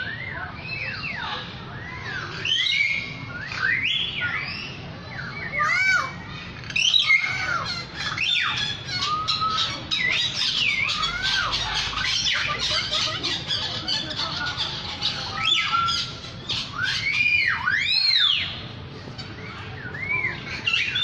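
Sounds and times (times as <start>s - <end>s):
bird chatter: 0.0s - 21.0s
whistled bird calls: 0.0s - 21.0s.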